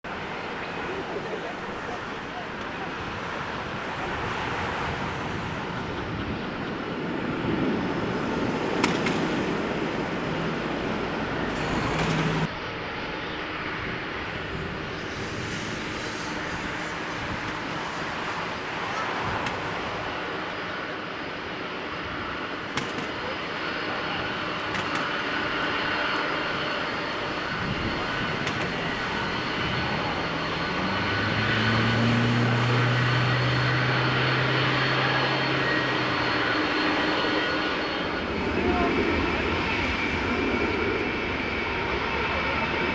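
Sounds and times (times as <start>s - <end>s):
jet engines running: 0.1s - 42.9s.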